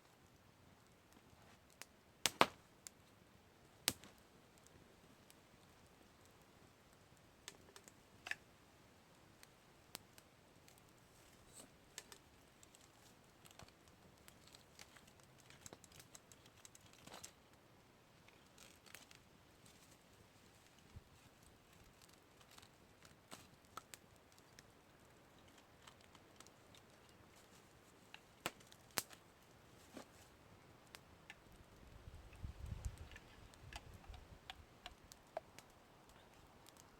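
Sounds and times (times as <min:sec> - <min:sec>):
campfire crackling: 0:00.0 - 0:36.9.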